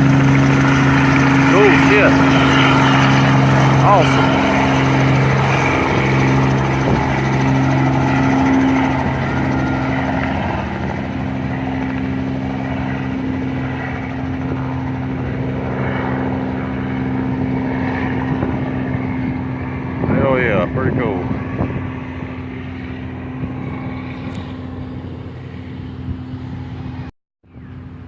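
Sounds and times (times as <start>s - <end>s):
helicopter engine and rotor chop: 0.0s - 28.0s.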